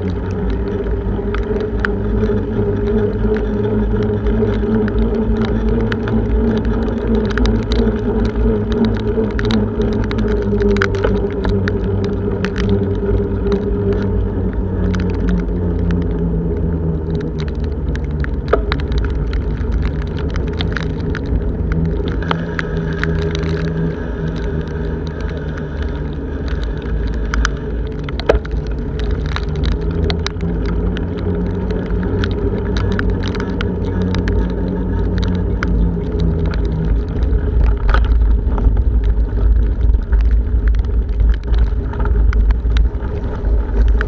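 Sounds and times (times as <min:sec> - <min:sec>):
wind noise and road rumble: 0:00.0 - 0:44.0.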